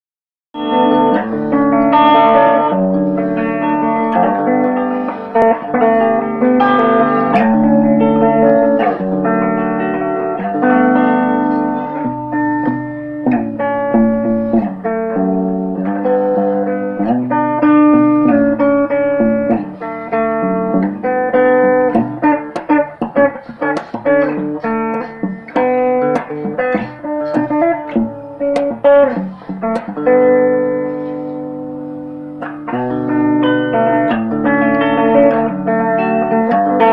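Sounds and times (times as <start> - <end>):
guitar melody: 0.6 - 36.9.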